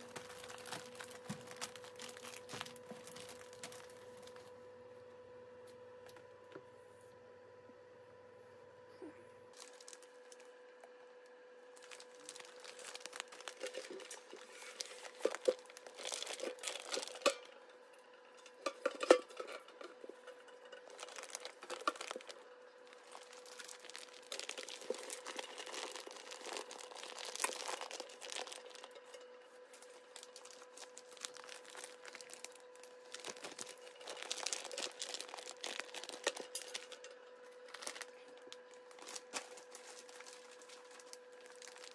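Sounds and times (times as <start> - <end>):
plastic bags crinkling: 0.0 - 4.5, 9.5 - 10.6, 11.6 - 17.6, 18.6 - 41.9
faint steady hum: 0.0 - 41.9.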